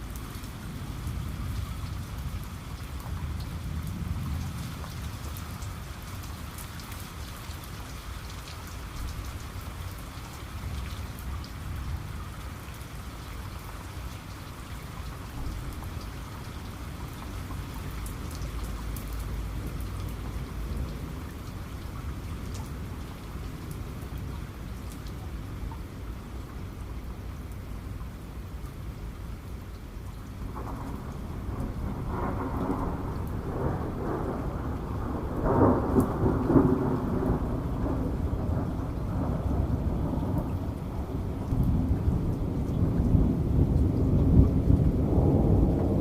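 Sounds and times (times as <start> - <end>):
rain ticking on a surface: 0.0 - 46.0.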